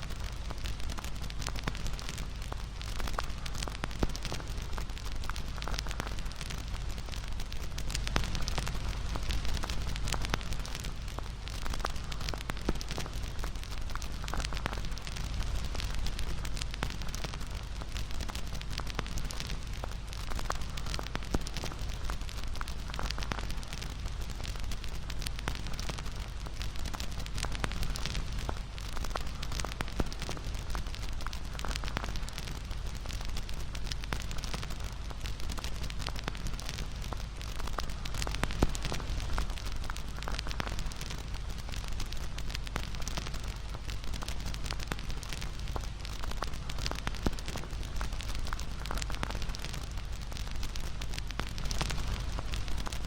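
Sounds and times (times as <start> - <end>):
bonfire crackling and popping: 0.0 - 53.0
low rumble of burning: 0.0 - 53.0.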